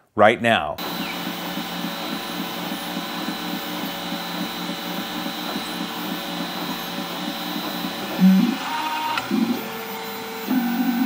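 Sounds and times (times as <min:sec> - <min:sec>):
fans humming: 0:00.8 - 0:11.0
stepper motors whirring: 0:00.8 - 0:11.0.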